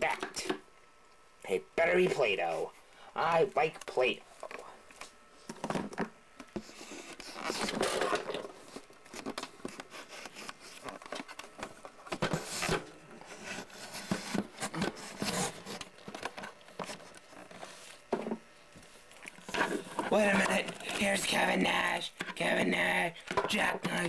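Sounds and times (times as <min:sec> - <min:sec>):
plastic figures rustling and scraping: 0:04.0 - 0:24.0.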